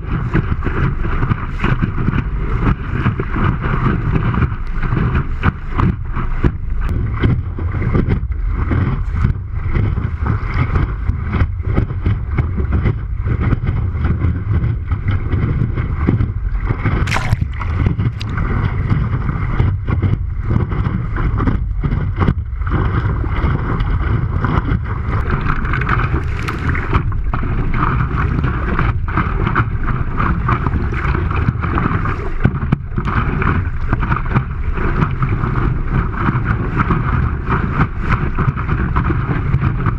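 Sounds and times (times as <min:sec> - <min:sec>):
water rushing under board: 0:00.0 - 0:39.9
wind buffeting microphone: 0:00.0 - 0:39.9.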